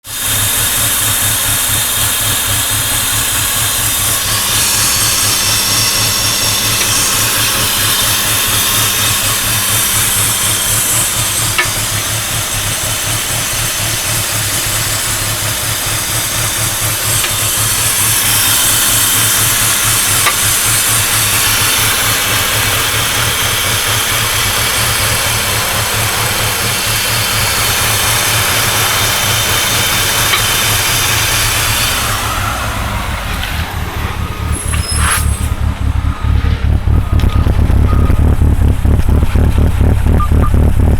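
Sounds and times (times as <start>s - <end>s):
car engine knocking: 0.0s - 40.9s
hiss: 0.1s - 33.0s.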